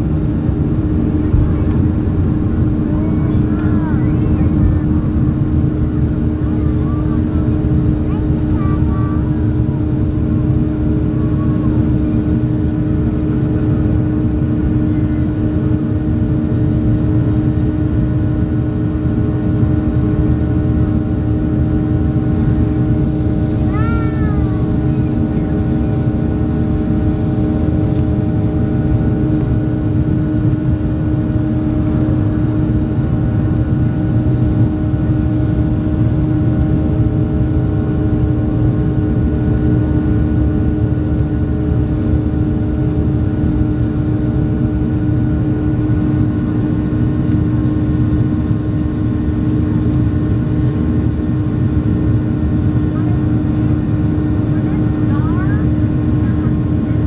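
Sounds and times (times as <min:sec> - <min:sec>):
jet engine cabin drone: 0:00.0 - 0:57.0.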